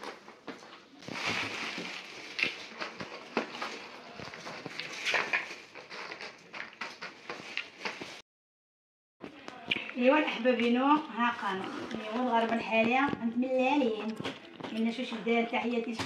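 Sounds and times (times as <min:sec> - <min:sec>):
plastic bags rustling: 0:00.0 - 0:08.2, 0:10.3 - 0:16.0.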